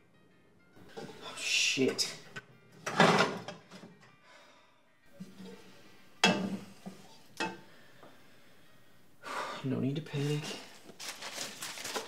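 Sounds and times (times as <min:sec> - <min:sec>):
quiet kitchen background: 0:00.0 - 0:12.0.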